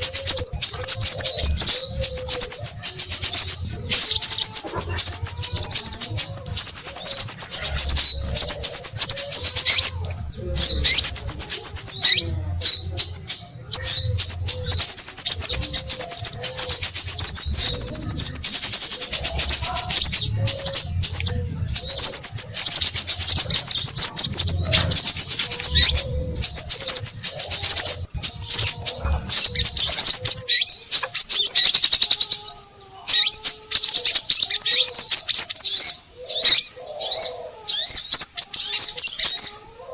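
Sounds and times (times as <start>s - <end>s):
birds calling with high thin chirps: 0.0s - 39.9s.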